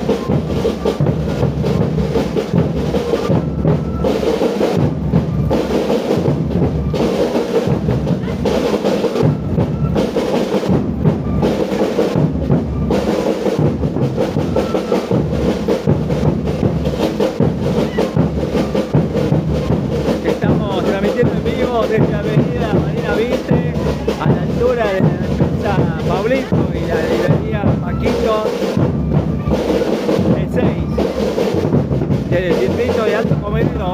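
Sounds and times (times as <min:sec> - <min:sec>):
drums beating steadily: 0:00.0 - 0:33.9
live band music: 0:00.0 - 0:33.9.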